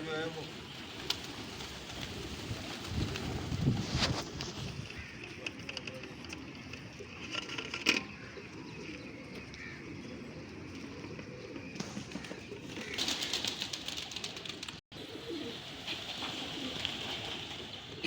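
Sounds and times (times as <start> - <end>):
wings fluttering: 0.0 - 8.4, 11.7 - 18.0
pigeons cooing: 0.0 - 18.0.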